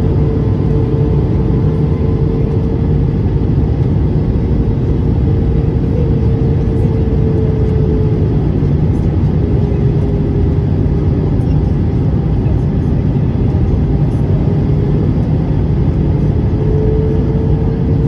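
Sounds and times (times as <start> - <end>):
droning tone: 0.0 - 18.0
jet engines rumbling: 0.0 - 18.0.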